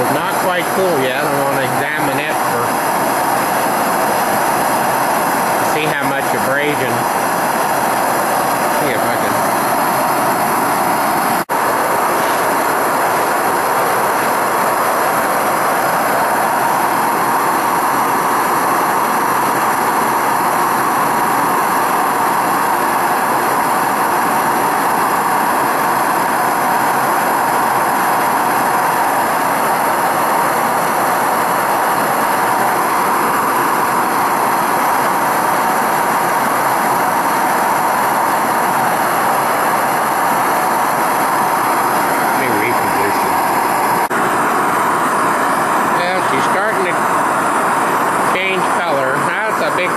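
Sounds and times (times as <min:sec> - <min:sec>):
gas torch rushing: 0:00.0 - 0:49.9.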